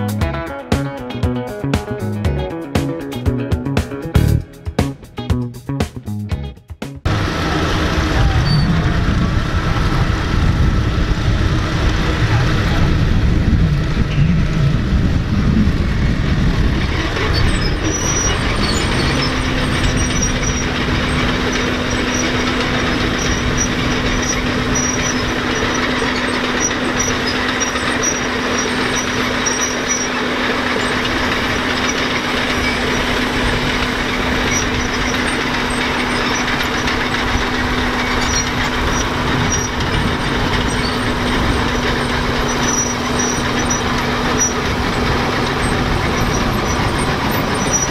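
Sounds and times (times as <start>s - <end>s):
crawler tractor engine under load: 6.4s - 47.9s.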